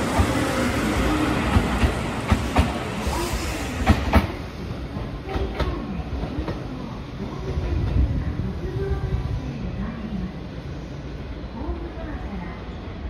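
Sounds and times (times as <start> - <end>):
electric train running on rails: 0.0 - 13.0.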